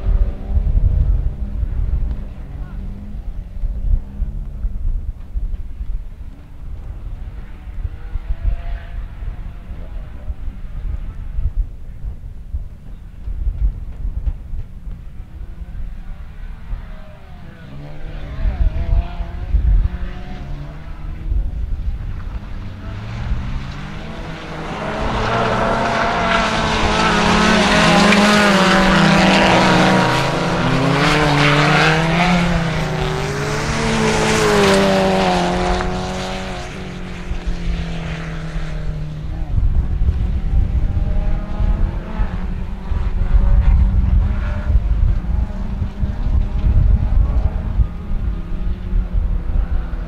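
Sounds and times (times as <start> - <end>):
racing car engines revving: 0.0 - 12.2, 14.2 - 50.0.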